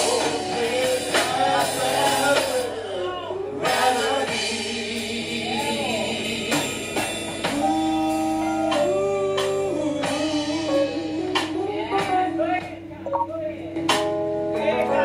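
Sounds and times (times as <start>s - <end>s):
gospel singing: 0.0s - 14.0s
drums: 0.0s - 15.0s
guitar: 0.0s - 15.0s.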